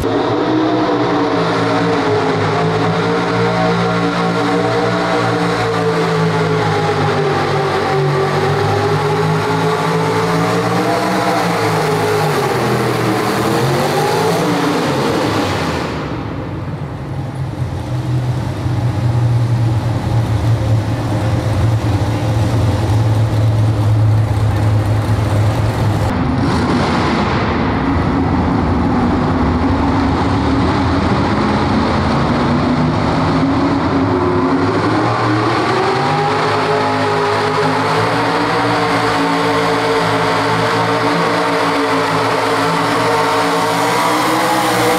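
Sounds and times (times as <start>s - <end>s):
truck engines running hard: 0.0s - 44.9s.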